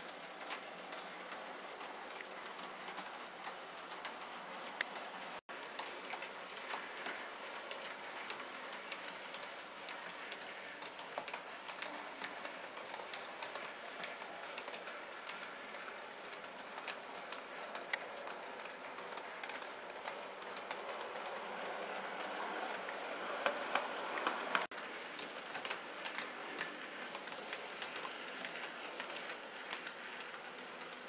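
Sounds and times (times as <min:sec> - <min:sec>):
model train running: 0:00.0 - 0:31.0
wheels clicking on rails: 0:00.0 - 0:31.0.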